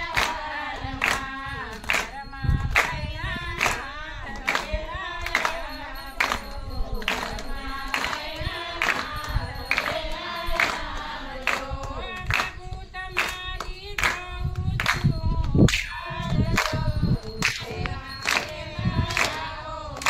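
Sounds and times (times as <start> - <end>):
voices singing devotional song: 0.0 - 20.0
hand clapping: 0.1 - 20.0.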